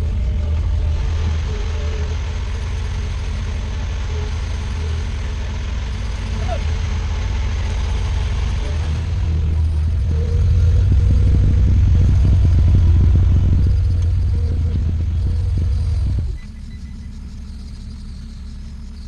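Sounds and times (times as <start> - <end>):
skid steer engine running hard: 0.0 - 19.0.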